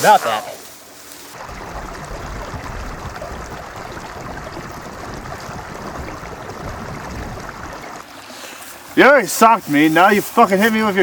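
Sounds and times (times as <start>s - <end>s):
wind and water rushing: 0.0s - 11.0s.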